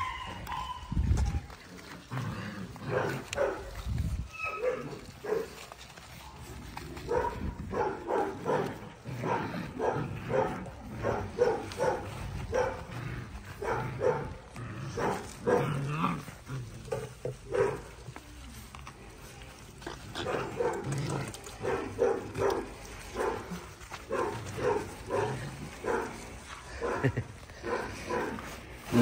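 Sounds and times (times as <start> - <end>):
puppies barking: 0.0 - 18.2, 19.6 - 29.0.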